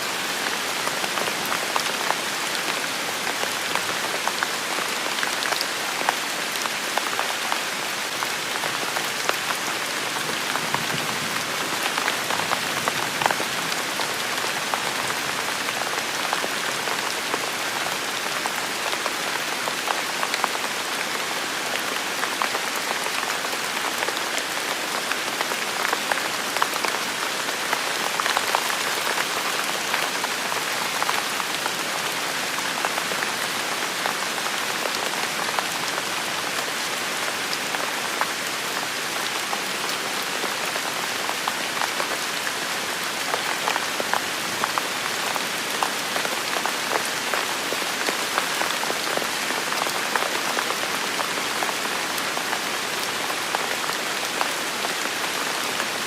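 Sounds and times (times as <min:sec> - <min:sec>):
rain spattering on hard surfaces: 0:00.0 - 0:56.0.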